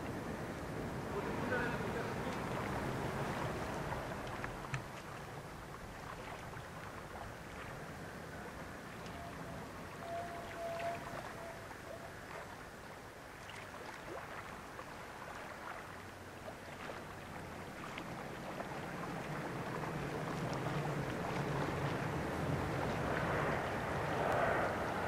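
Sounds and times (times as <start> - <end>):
soft outdoor hiss: 0.0 - 21.3.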